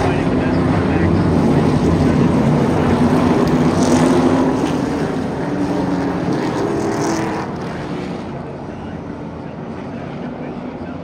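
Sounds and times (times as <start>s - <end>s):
race car engines drone: 0.0s - 11.0s.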